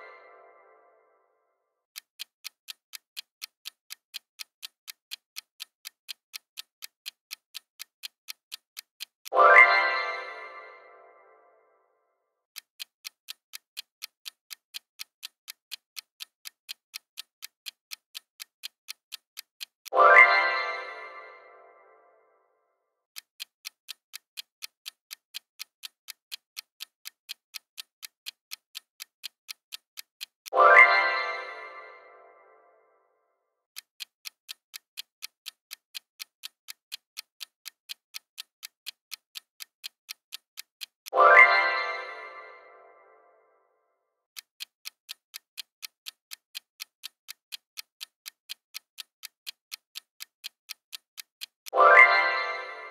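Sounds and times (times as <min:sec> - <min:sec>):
clock ticking: 0:00.0 - 0:00.9, 0:01.8 - 0:11.4, 0:12.4 - 0:22.1, 0:23.0 - 0:32.9, 0:33.6 - 0:43.5, 0:44.2 - 0:52.9.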